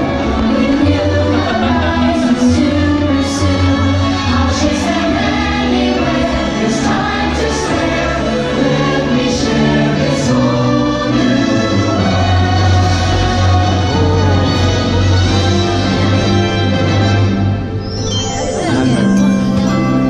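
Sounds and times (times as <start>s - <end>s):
choir singing: 0.0s - 17.0s
orchestral music: 0.0s - 20.0s.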